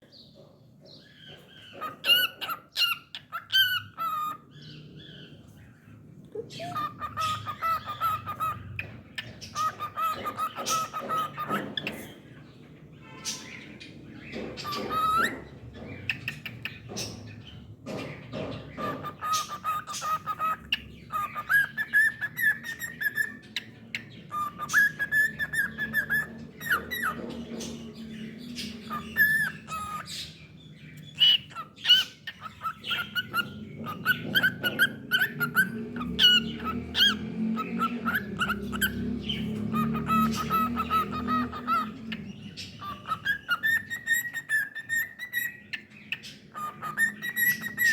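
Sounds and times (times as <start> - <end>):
cockatiel whistling and chirping: 1.3 - 4.5, 6.5 - 12.2, 14.3 - 16.8, 18.5 - 27.8, 28.4 - 30.4, 31.0 - 47.9.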